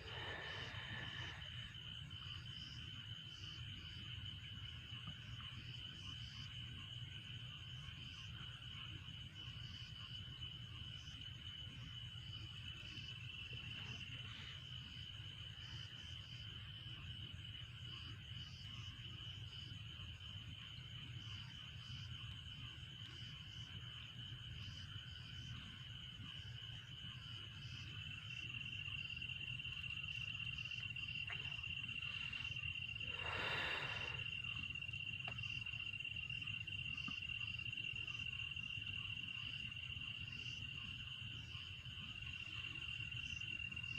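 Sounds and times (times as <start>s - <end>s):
insects chirring: 0.0s - 43.9s
pulsing insect call: 0.0s - 43.9s.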